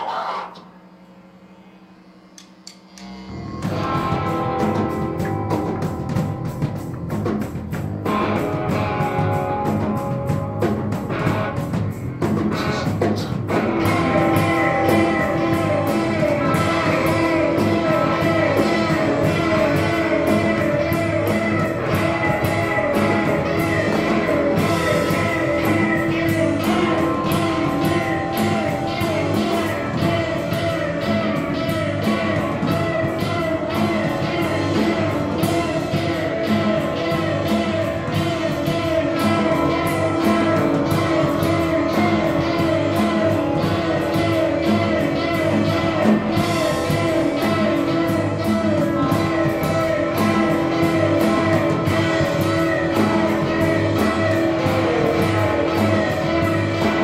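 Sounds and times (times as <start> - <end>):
electric guitar: 2.9 - 57.0
live rock band playing: 3.1 - 57.0
drum beat: 3.5 - 57.0
person singing: 8.0 - 57.0.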